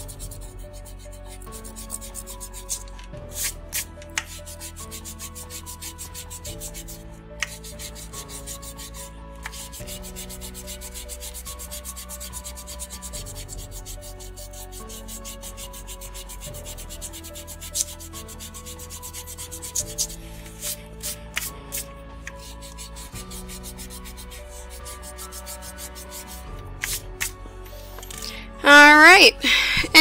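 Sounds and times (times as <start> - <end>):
eraser rubbing on paper: 0.0 - 27.9
soft background music: 0.0 - 30.0.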